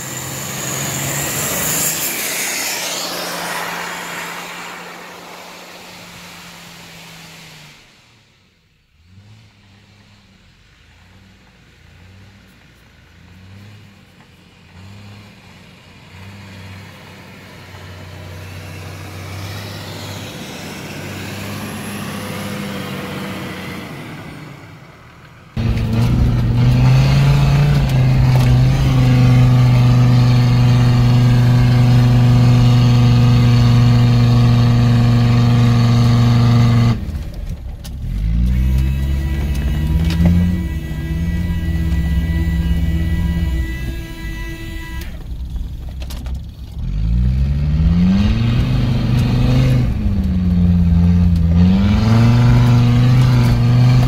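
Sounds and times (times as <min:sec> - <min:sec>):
engine revving up and down: 0:00.0 - 0:12.5, 0:13.2 - 0:14.1, 0:14.7 - 0:24.8, 0:25.6 - 0:45.9, 0:46.6 - 0:54.0
engine drone inside cab: 0:00.0 - 0:16.2, 0:17.0 - 0:54.0
diesel truck passing: 0:00.0 - 0:54.0.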